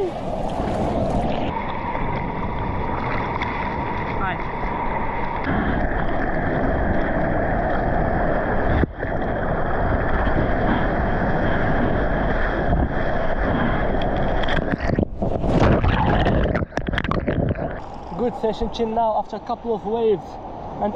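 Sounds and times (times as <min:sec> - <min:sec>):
wind buffeting microphone: 0:00.0 - 0:19.5
waves breaking: 0:00.0 - 0:20.9.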